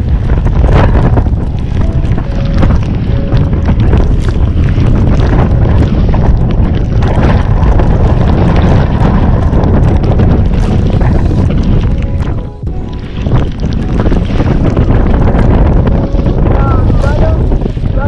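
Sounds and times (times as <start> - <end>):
choppy waves slapping: 0.0 - 18.0
heavy rain: 0.0 - 18.0
wind buffeting microphone: 0.0 - 18.0.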